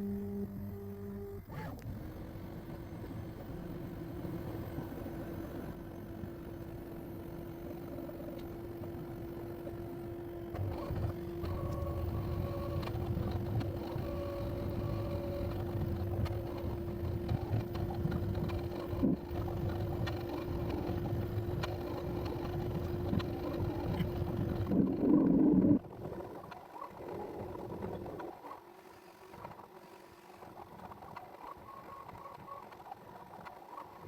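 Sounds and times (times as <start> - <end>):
constant tone: 0.0 - 34.0
printer fans and motors humming: 0.0 - 34.0.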